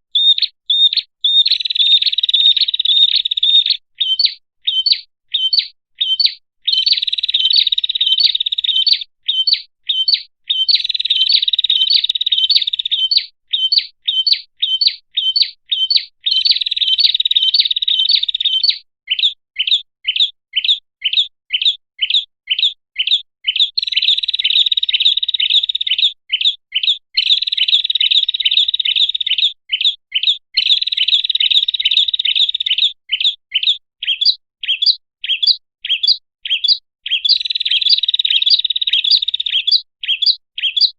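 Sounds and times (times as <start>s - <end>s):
bird chirping sharply: 0.1s - 40.9s.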